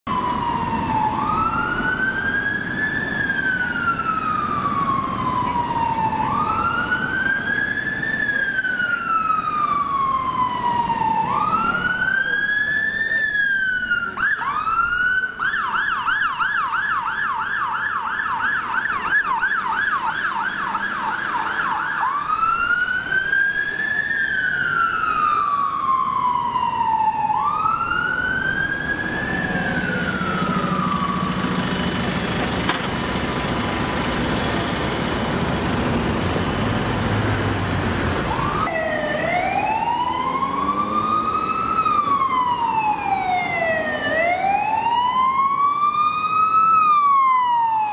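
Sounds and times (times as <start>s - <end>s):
fire engine sirens: 0.0s - 47.9s
heavy engine and road noise: 0.0s - 47.9s.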